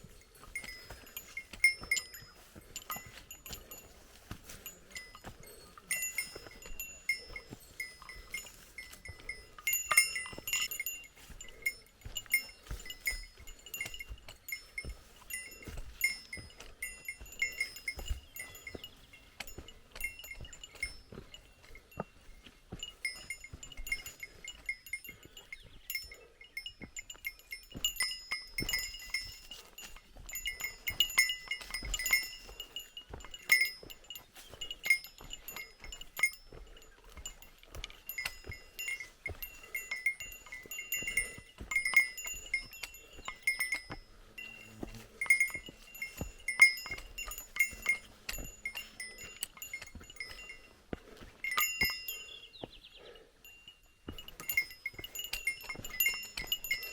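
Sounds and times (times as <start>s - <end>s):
footfalls on a trail: 0.0s - 56.9s
small metal bell jingling: 0.0s - 56.9s.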